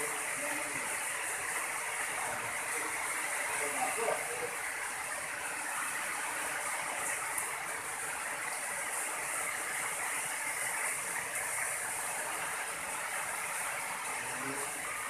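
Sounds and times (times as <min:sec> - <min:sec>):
rain on roofs and ground: 0:00.0 - 0:15.0.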